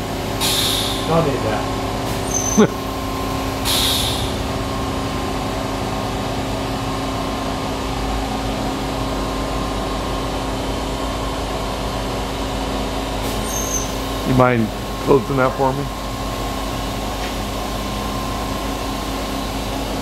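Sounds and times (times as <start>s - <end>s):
bandsaw running hum: 0.0s - 20.0s.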